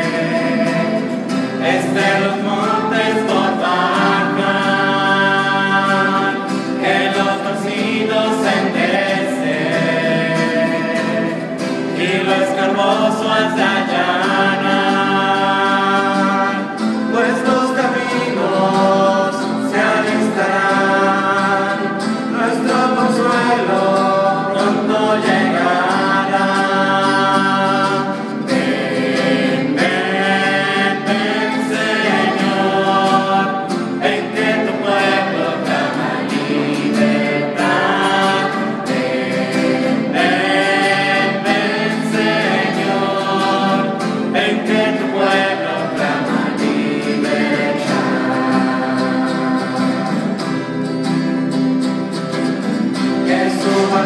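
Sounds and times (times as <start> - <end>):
acoustic guitar: 0.0 - 54.0
group singing together: 0.0 - 54.0.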